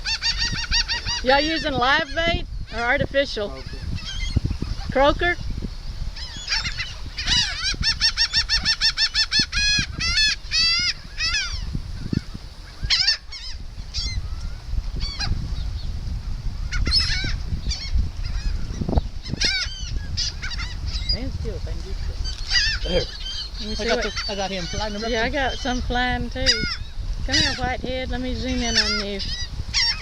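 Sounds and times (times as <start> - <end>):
gulls calling: 0.0 - 15.8, 16.6 - 30.0.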